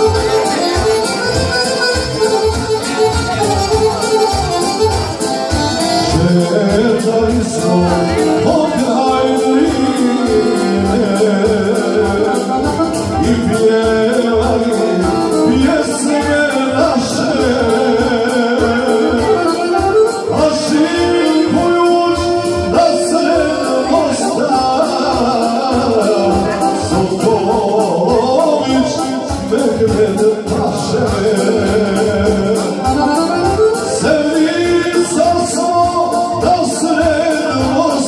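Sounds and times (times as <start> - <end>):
electronic keyboard with beat: 0.0 - 38.0
man singing into microphone: 0.0 - 38.0.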